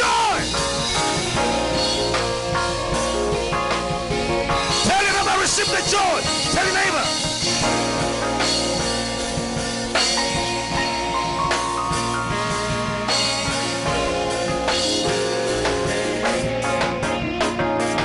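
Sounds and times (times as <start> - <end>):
drum kit beat: 0.0 - 18.0
held keyboard chords: 0.0 - 18.0
live worship band music: 0.0 - 18.0.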